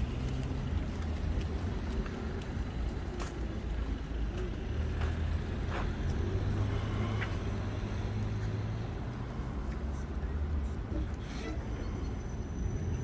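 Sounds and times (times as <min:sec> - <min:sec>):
passing cars rumbling: 0:00.0 - 0:13.0.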